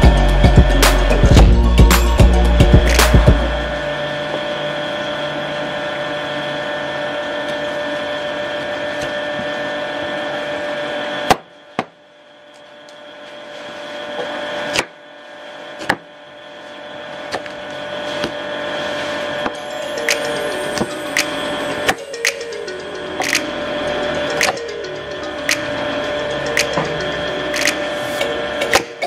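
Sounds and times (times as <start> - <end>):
hum of held tones: 0.0 - 29.0.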